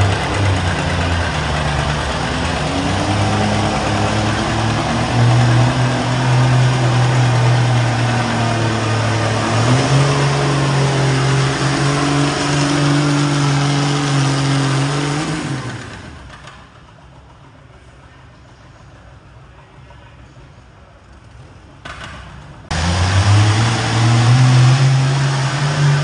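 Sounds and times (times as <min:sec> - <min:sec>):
tractor engine running hard: 0:00.0 - 0:18.0, 0:22.7 - 0:26.0.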